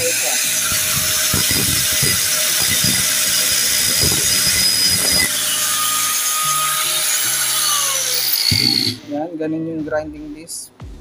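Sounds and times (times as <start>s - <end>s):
angle grinder grinding steel: 0.0s - 9.1s.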